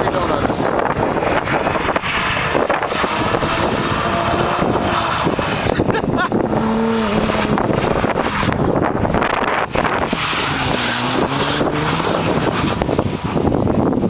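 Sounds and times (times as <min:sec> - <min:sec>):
wind buffeting microphone: 0:00.0 - 0:14.0
car engine revving hard: 0:00.1 - 0:13.9.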